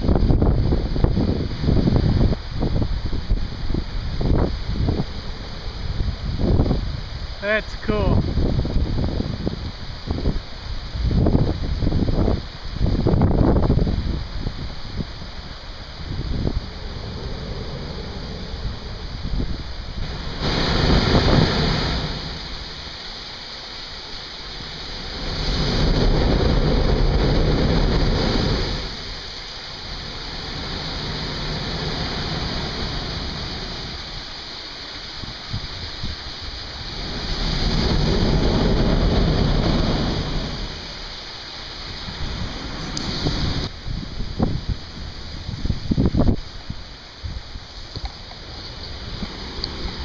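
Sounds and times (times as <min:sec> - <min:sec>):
blowhole water gushing: 0:00.0 - 0:50.0.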